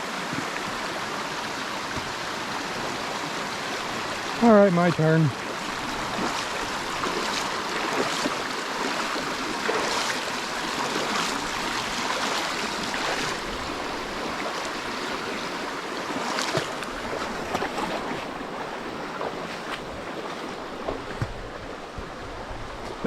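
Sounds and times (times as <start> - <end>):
rushing creek water: 0.0 - 23.0
splashes from wading: 0.2 - 22.2.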